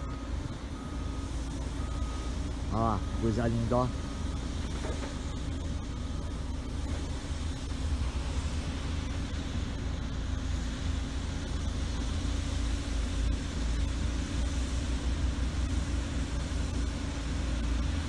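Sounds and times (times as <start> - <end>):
heavy machinery diesel engines: 0.0 - 18.0.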